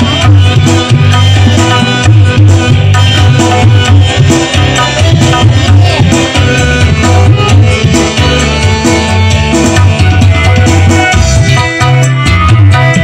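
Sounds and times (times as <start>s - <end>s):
loud music with hand drums: 0.0s - 13.0s.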